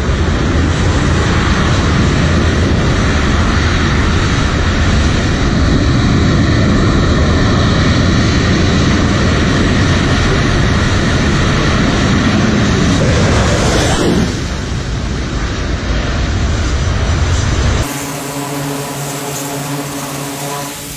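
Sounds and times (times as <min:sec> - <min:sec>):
fighter jet engine roar: 0:00.0 - 0:20.9.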